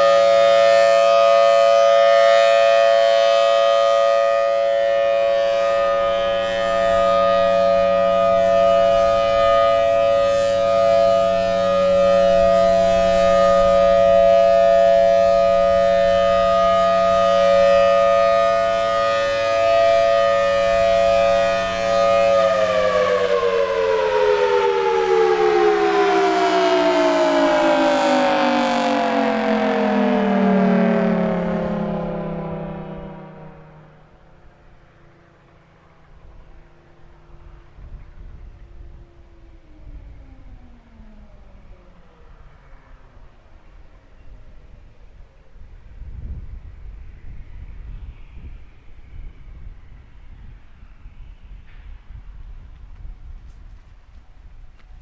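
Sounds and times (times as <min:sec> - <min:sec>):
warning siren alert tone: 0:00.0 - 0:45.0
siren winding down: 0:00.0 - 0:46.6.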